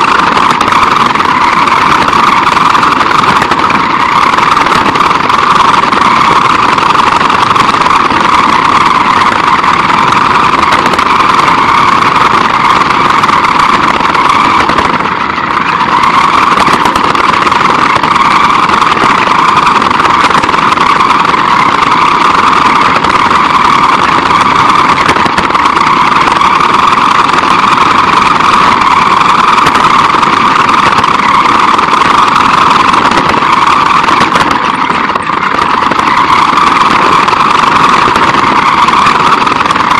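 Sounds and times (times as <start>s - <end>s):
rc car drivetrain whining: 0.0s - 39.9s
tyres rumbling on concrete: 0.0s - 39.9s.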